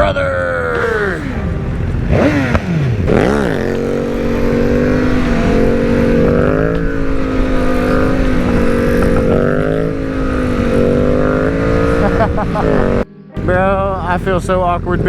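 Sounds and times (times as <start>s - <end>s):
motorcycle engine revving: 0.6s - 15.0s.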